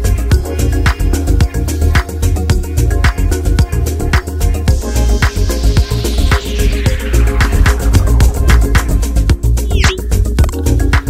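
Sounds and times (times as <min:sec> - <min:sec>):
dance beat with heavy bass: 0:00.0 - 0:11.0.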